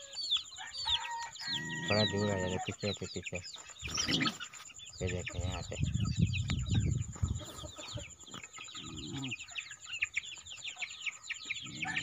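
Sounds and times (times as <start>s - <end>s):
chicks peeping: 0.0s - 12.0s
hens clucking: 0.0s - 12.0s.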